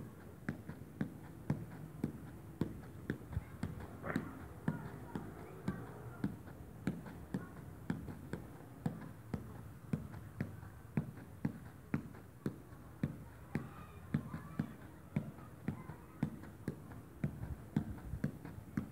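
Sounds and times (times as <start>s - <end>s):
shoe tapping a ball: 0.0s - 18.9s.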